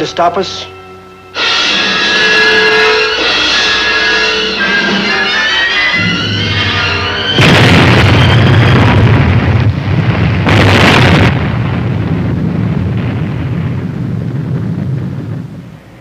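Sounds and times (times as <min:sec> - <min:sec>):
large explosion blast: 0:01.4 - 0:16.0
low rumble: 0:01.6 - 0:16.0.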